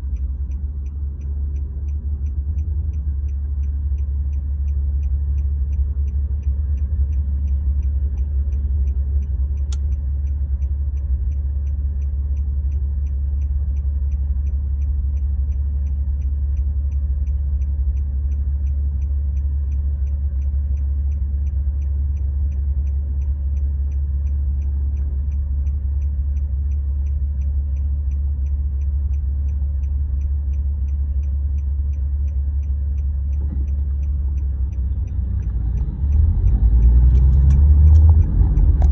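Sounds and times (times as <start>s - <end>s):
car engine idling hum: 0.0s - 38.9s
turn signal ticking: 0.0s - 38.9s.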